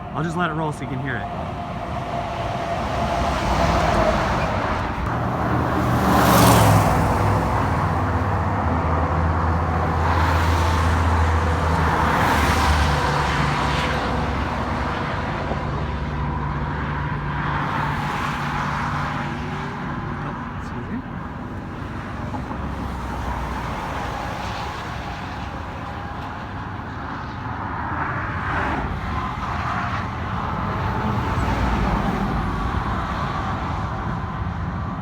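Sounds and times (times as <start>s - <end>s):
low truck engine drone: 0.0s - 35.0s
truck tyre noise: 0.0s - 35.0s
vehicles passing in traffic: 0.0s - 35.0s.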